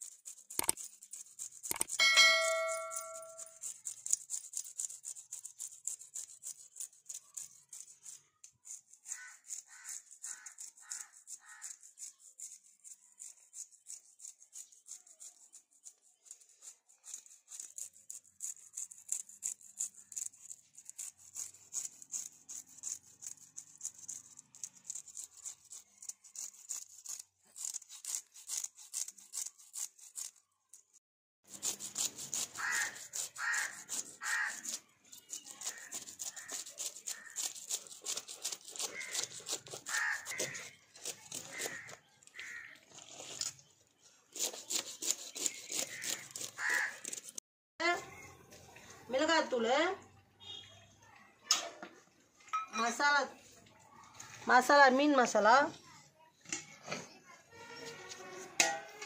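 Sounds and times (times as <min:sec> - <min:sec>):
knife scraping fish scales: 0:00.0 - 0:47.4, 0:52.8 - 0:55.4, 0:56.4 - 0:59.0.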